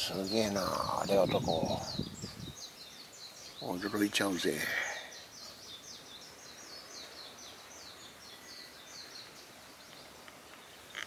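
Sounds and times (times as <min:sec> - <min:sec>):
low outdoor background noise: 0:00.0 - 0:11.0
rapid high chirping calls: 0:00.0 - 0:11.0.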